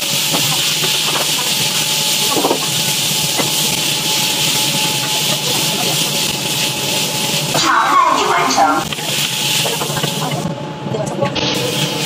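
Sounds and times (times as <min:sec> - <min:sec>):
food sizzling in a wok: 0:00.0 - 0:10.6, 0:11.4 - 0:12.0.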